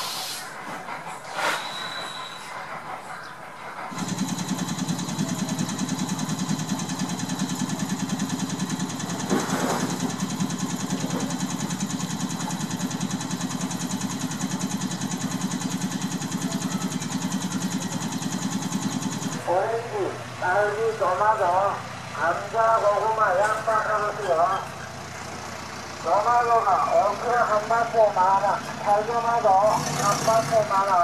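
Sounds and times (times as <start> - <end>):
small engine running: 3.7 - 31.0.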